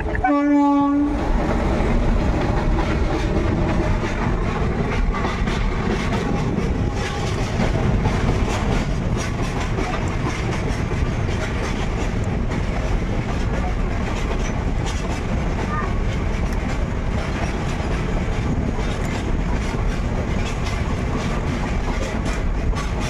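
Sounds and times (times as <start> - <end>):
clickety-clack of rails: 0.0 - 23.0
train wheels rumbling on rails: 0.0 - 23.0.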